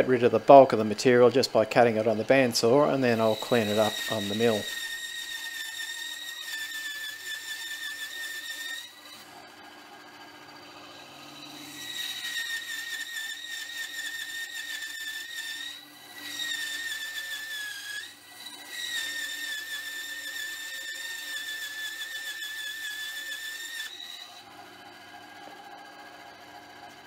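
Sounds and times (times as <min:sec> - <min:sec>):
bandsaw squealing through metal: 0:00.0 - 0:24.5.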